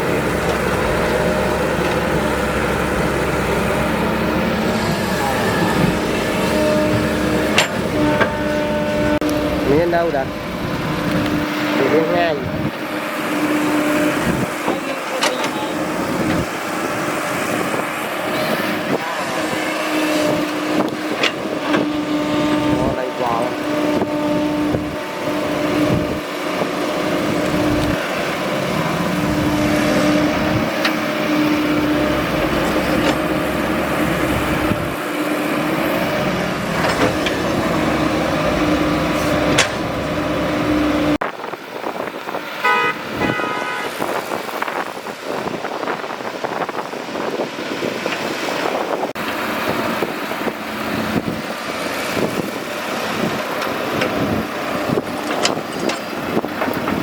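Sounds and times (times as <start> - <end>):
rattling machinery working: 0.0 - 43.3, 43.9 - 57.0
diesel engine droning: 0.0 - 57.0.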